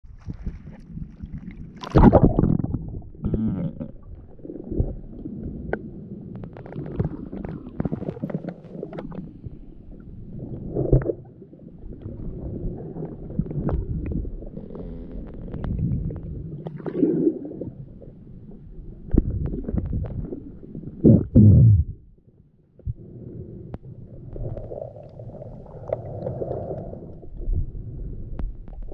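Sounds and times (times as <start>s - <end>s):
underwater water rumbling: 0.0s - 28.9s.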